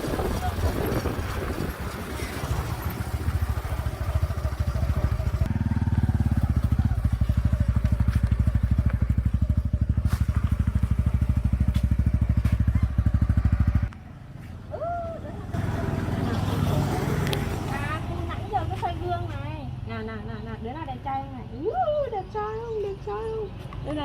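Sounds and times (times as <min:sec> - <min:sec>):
motorbike engine running: 0:00.0 - 0:19.8.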